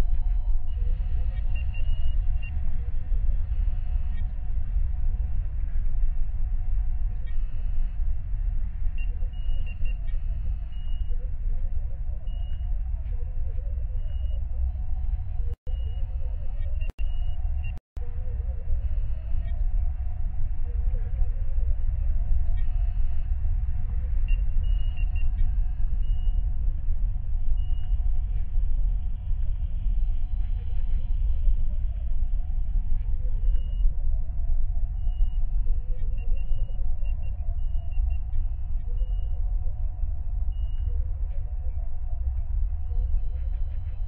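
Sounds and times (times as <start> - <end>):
deep steady ship hum: 0.0 - 44.0.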